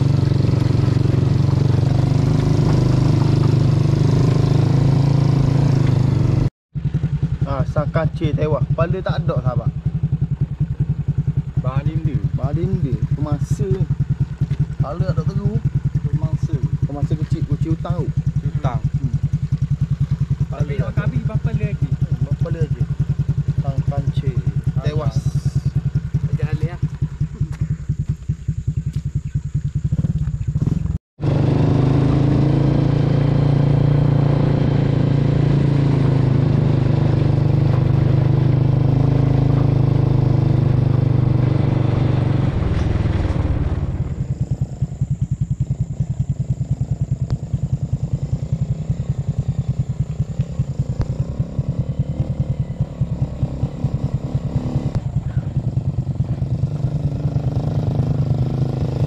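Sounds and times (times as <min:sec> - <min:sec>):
small engine running: 0:09.0 - 0:59.0.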